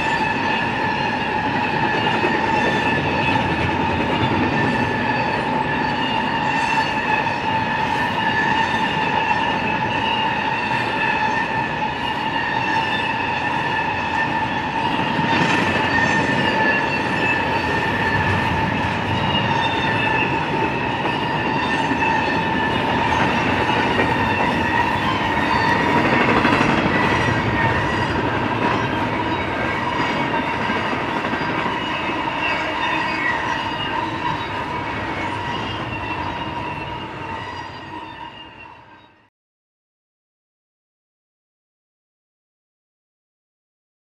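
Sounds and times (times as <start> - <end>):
freight train wheels rumbling: 0.0 - 38.8
wheels squealing on rail: 0.0 - 39.3.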